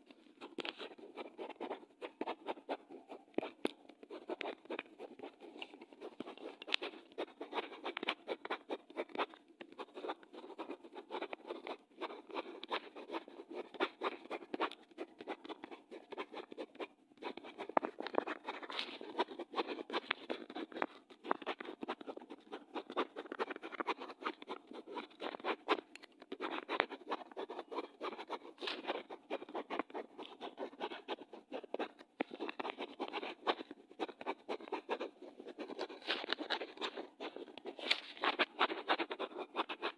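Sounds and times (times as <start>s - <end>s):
pen scratching on paper: 0.0s - 39.9s.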